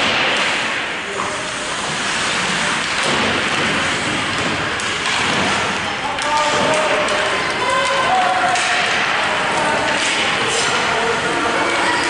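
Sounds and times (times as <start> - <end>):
hiss of crowd and rink noise: 0.0 - 12.0
hockey sticks and puck clacking: 0.0 - 12.0.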